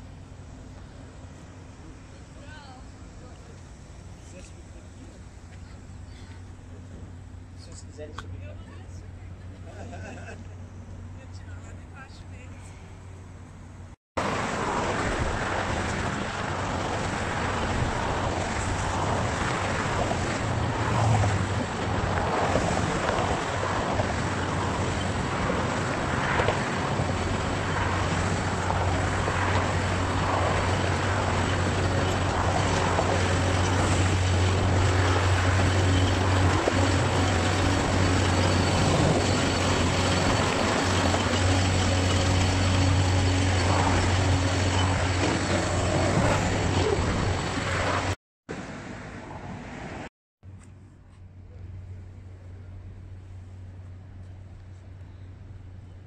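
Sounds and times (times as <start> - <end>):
machine engine droning: 0.0 - 48.2
passing car traffic: 0.0 - 50.1.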